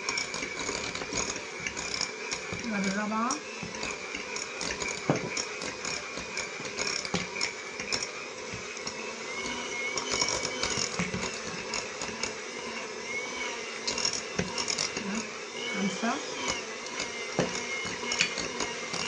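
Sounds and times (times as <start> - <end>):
dough beaten in a bowl: 0.0 - 19.0.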